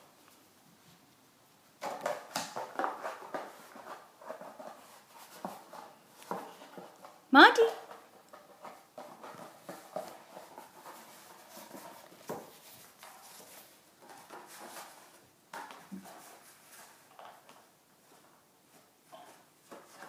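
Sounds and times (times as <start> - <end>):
cardboard tube tapping and scraping on rug: 1.8 - 20.0.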